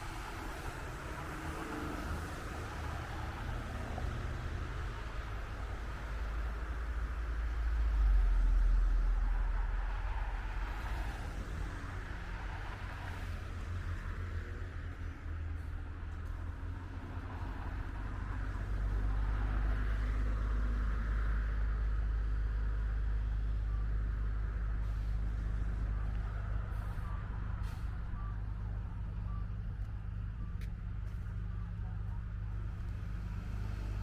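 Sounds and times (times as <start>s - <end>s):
truck engine deep rumble: 0.0s - 34.0s.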